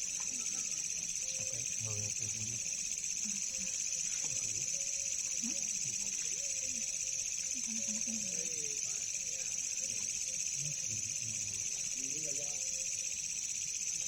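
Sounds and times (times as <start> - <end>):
crickets and insects trilling: 0.0 - 14.0
faint distant voices: 0.0 - 14.0.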